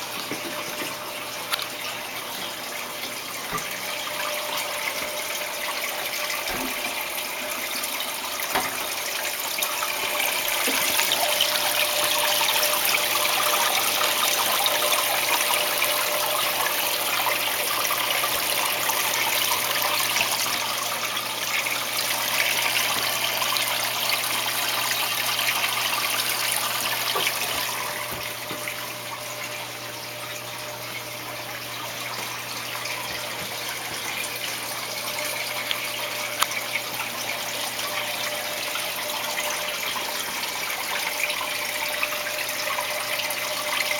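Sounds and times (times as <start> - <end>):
aquarium water running and splashing: 0.0 - 43.9.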